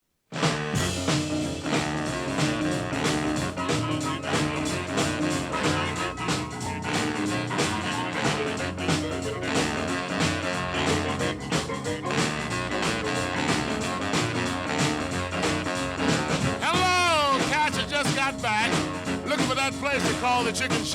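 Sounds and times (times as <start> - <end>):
boogie-woogie piano: 0.4 - 20.9
rhythm and blues band playing: 0.4 - 20.9.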